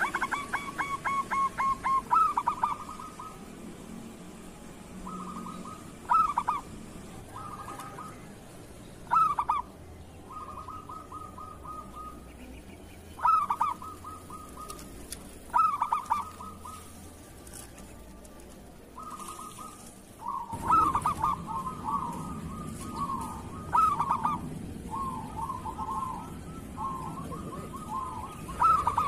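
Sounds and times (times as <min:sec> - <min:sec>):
dove cooing: 0:00.0 - 0:03.6, 0:05.0 - 0:29.0.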